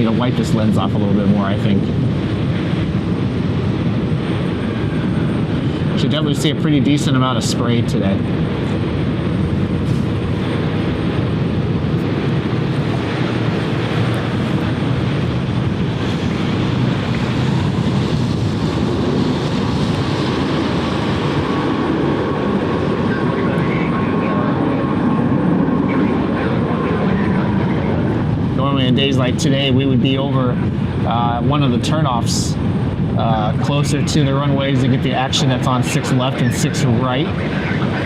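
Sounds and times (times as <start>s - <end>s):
faint engine whine: 0.0s - 38.0s
jet engine roar: 0.0s - 38.0s.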